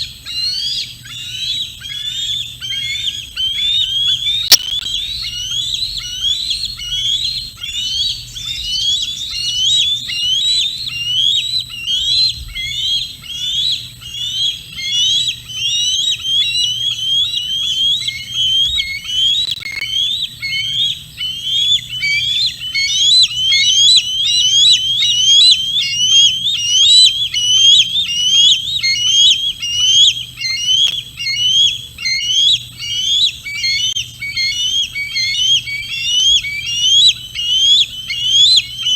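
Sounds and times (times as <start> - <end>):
eagle whistled chirps: 0.0 - 38.9.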